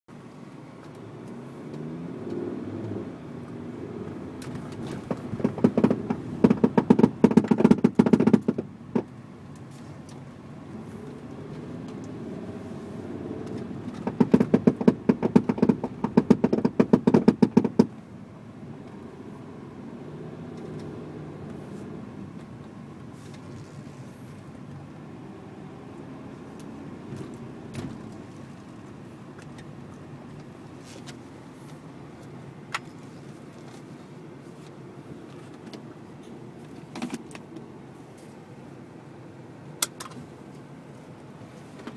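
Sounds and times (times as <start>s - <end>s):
car engine running: 0.1s - 41.9s.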